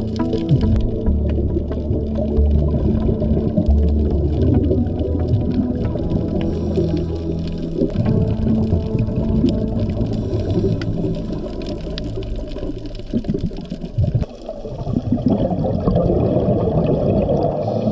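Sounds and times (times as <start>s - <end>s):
underwater regulator bubbles gurgling: 0.0s - 17.9s.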